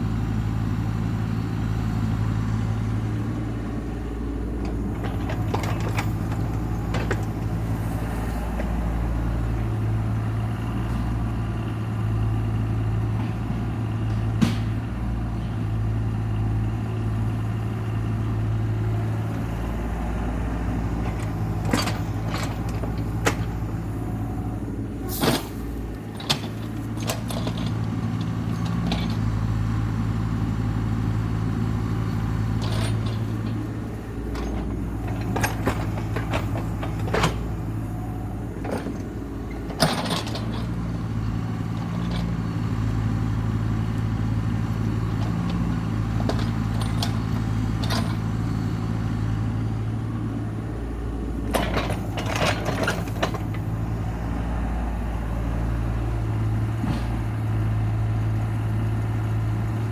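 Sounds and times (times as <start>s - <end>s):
heavy machine engine running: 0.0s - 59.9s.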